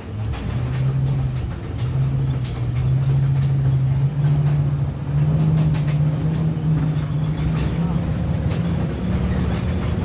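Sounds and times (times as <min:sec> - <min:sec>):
bus engine droning: 0:00.0 - 0:10.0.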